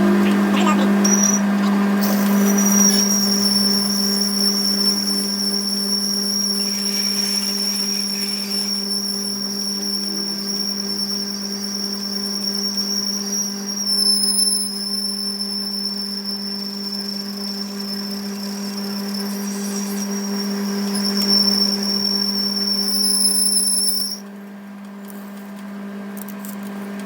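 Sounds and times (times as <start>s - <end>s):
workshop machine humming and whining: 0.0s - 27.0s.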